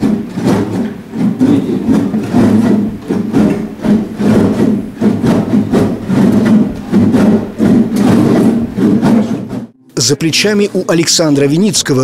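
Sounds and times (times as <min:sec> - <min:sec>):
acoustic guitars strumming chords: 0:00.0 - 0:10.6.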